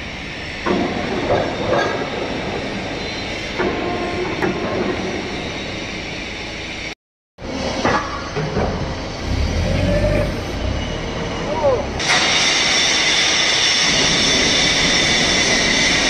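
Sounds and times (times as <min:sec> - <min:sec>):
crane mechanical rumble: 0:00.0 - 0:16.0.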